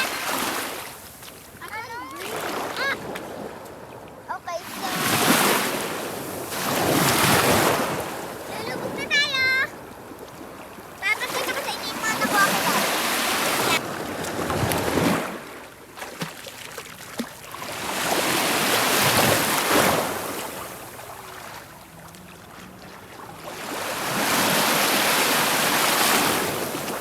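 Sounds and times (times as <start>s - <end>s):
sea waves washing in: 0.0s - 27.0s.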